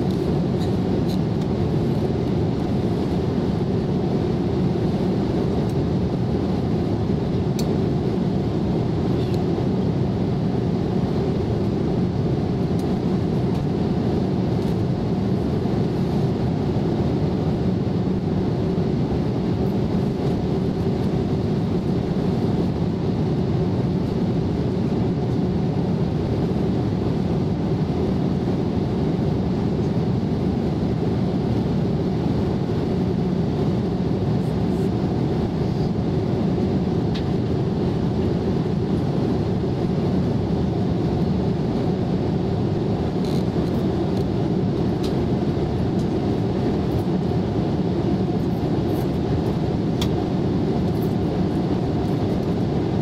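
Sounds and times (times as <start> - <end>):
airliner cabin engine noise: 0.0 - 53.0.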